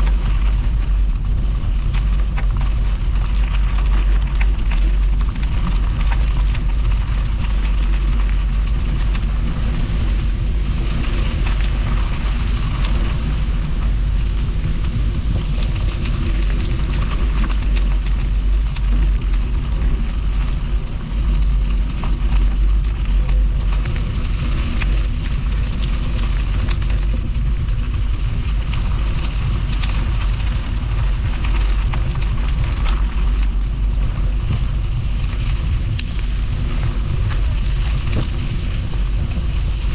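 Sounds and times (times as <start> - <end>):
bicycle tyres rolling on gravel: 0.0 - 39.9
wind buffeting microphone: 0.0 - 39.9.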